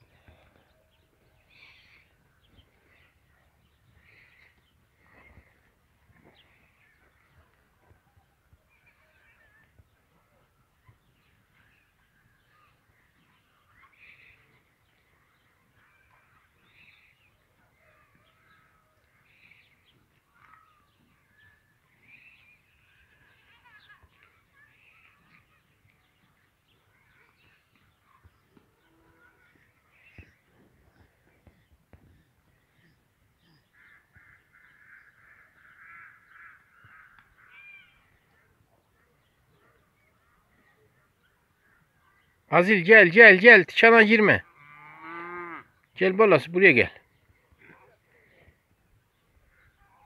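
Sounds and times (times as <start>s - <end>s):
faint birds chirping: 0.0s - 50.0s.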